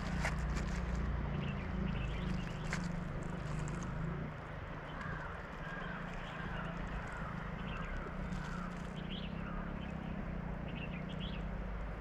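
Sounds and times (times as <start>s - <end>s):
birds chirping: 0.0s - 12.0s
low outdoor rumble: 0.0s - 12.0s.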